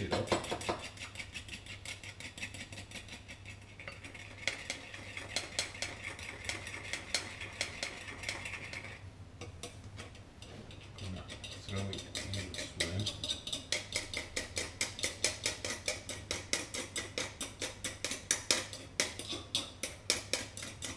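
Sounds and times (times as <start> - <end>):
fork scraping a bowl: 0.0 - 20.9.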